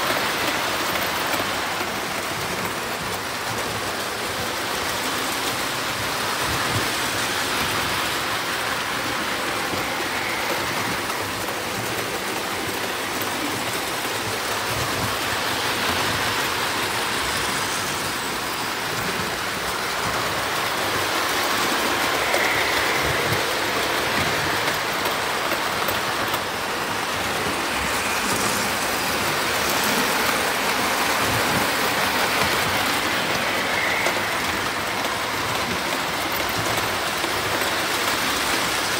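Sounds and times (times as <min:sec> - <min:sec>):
toy train wheels rumbling on metal rail: 0:00.0 - 0:38.9.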